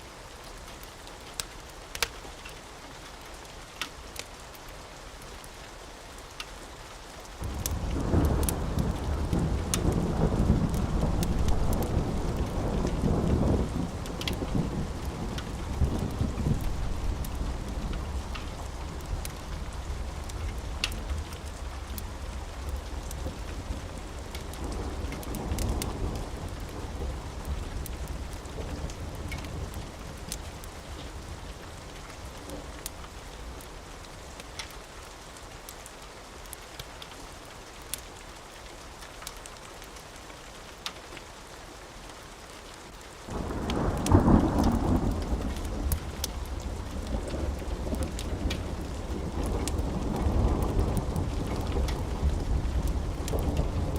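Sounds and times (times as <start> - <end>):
sharp ticks of raindrops: 0.0 - 53.9
steady rain: 0.0 - 53.9.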